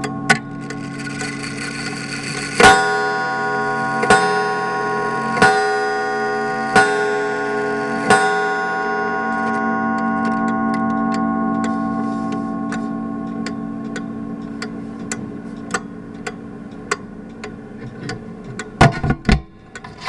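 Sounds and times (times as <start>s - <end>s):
pendulum ticking: 0.0s - 18.8s
wall clock striking: 0.0s - 20.0s.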